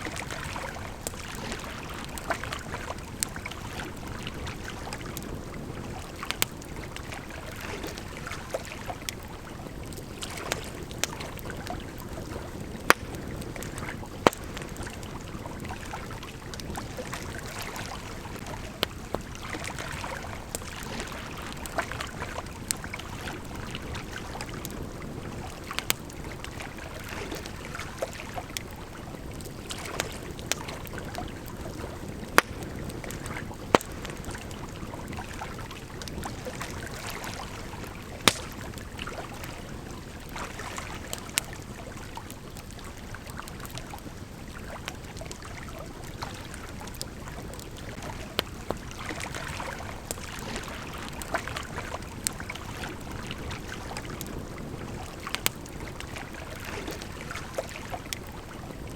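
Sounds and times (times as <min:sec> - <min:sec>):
campfire crackling and popping: 0:00.0 - 0:58.9
river flowing: 0:00.0 - 0:58.9.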